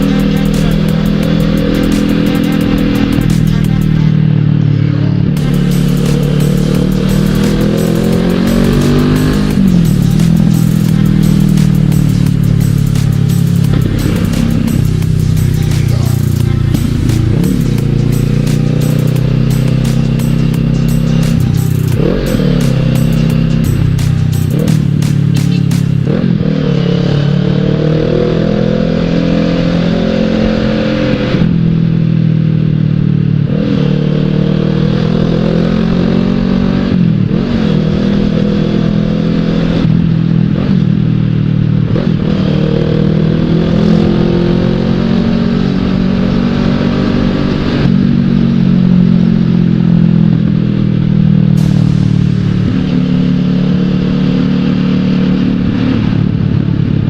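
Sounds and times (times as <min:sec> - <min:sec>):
motorcycle engine shifting gears: 0:00.0 - 0:57.0.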